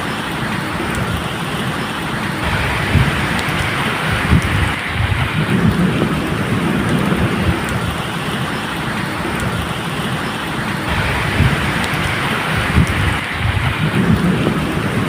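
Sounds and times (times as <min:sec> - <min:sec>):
rain falling: 0:00.0 - 0:15.0
thunder rumbling: 0:02.2 - 0:15.0.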